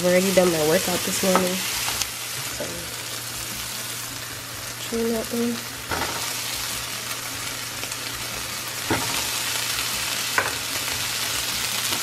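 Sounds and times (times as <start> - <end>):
onion and tomato sizzling in pan: 0.0 - 12.0.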